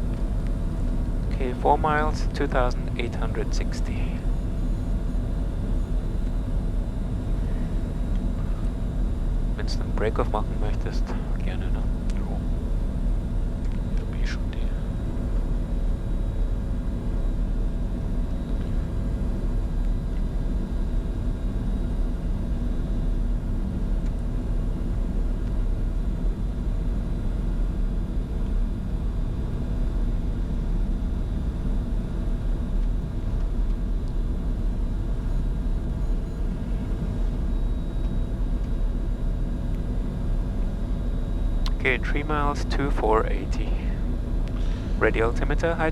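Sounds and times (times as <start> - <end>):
faint steady tones: 0.0 - 45.9
jet cockpit airflow and engine rumble: 0.0 - 45.9.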